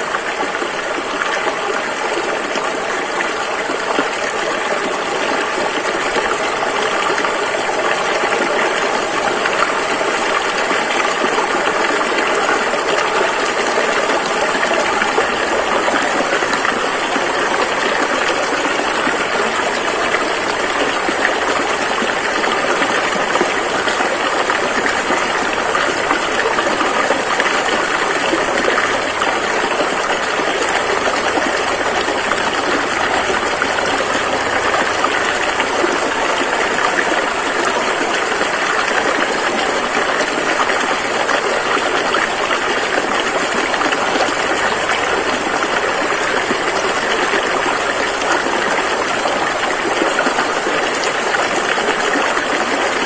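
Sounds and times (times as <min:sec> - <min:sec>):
rushing river water: 0:00.0 - 0:53.0.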